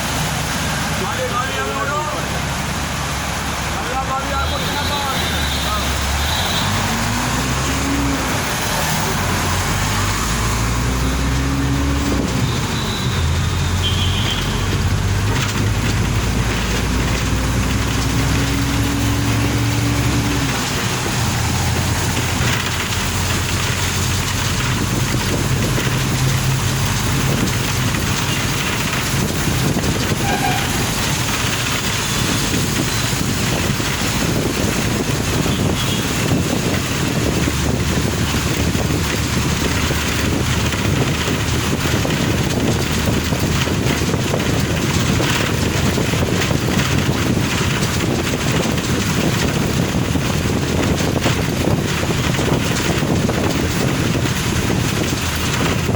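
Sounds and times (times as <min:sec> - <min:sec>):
car engine drone: 0:00.0 - 0:55.9
tyres on wet road: 0:00.0 - 0:55.9
wind noise: 0:06.0 - 0:55.9.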